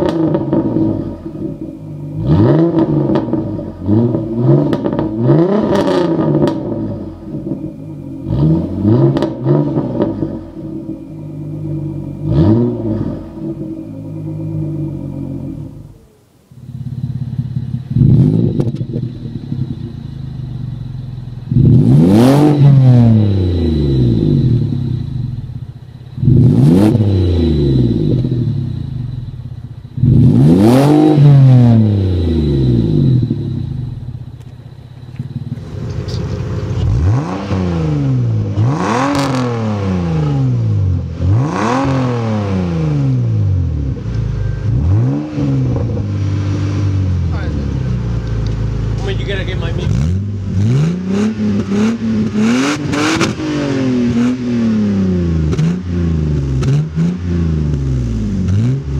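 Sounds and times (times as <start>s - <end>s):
car engine revving quickly: 0.0s - 16.1s, 17.3s - 20.7s, 21.4s - 25.4s, 26.2s - 29.2s, 30.0s - 34.2s, 35.4s - 58.9s
car engine revving: 0.0s - 58.9s
car exhaust idling: 0.0s - 58.9s.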